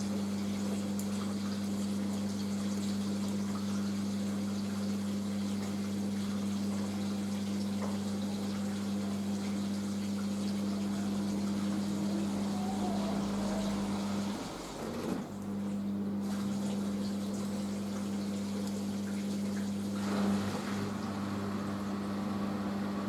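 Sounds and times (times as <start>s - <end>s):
washing machine drain pump humming: 0.0s - 23.0s.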